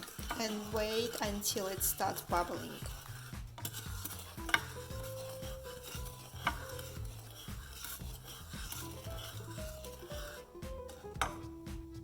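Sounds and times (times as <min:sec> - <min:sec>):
soft background music: 0:00.0 - 0:12.0
utensil scraping a saucepan: 0:00.0 - 0:12.0.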